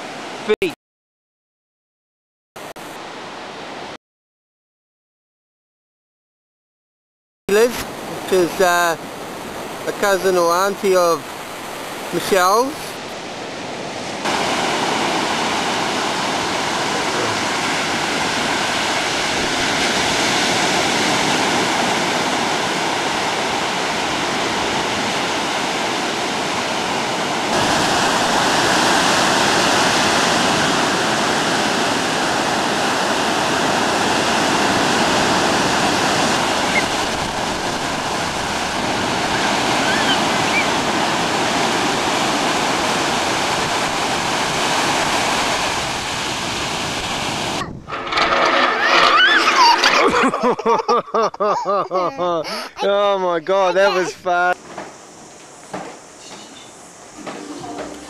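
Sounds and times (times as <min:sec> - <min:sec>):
ocean surf breaking: 0:07.5 - 0:51.0, 0:51.8 - 0:58.0.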